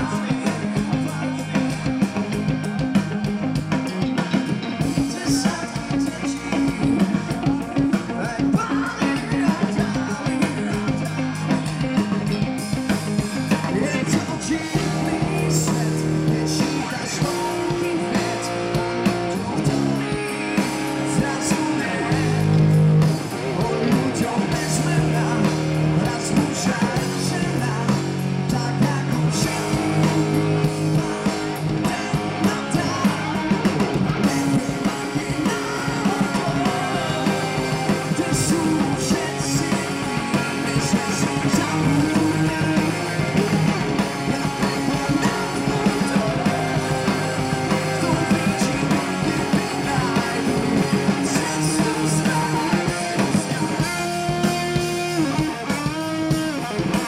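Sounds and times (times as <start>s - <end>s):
man singing: 0.0s - 3.2s, 4.0s - 57.0s
electric guitar: 0.0s - 57.0s
live rock band: 0.0s - 57.0s.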